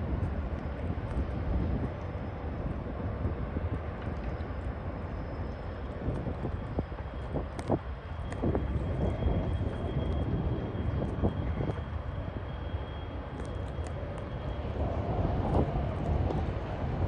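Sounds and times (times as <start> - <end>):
diesel locomotive rumble: 0.0 - 17.0
wind buffeting microphone: 0.0 - 17.0.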